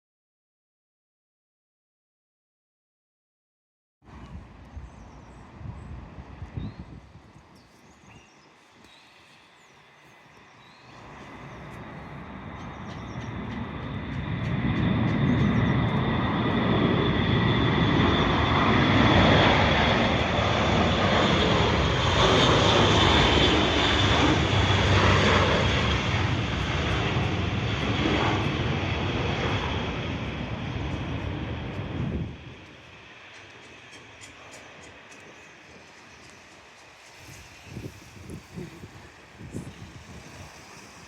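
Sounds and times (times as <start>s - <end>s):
high engine whine: 4.1s - 41.0s
turboprop engines droning: 4.1s - 41.0s.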